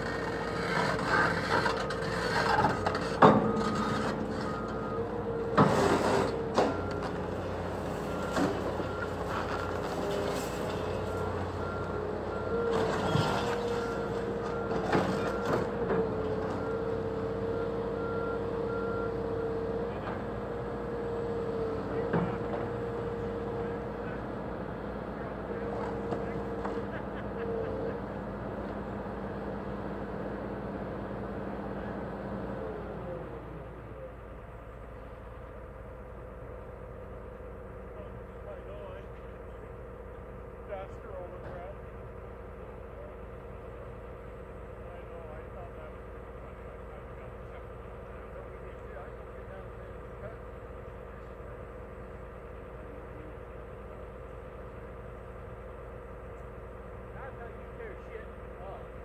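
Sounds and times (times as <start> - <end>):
heavy machinery engine humming: 0.0 - 59.0.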